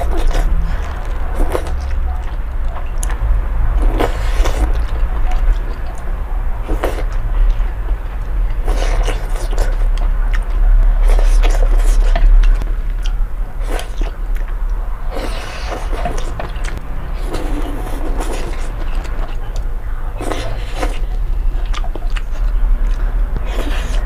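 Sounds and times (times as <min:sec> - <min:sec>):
slurping and chewing noodles: 0:00.0 - 0:03.2, 0:03.8 - 0:24.0
low hum: 0:00.0 - 0:24.0.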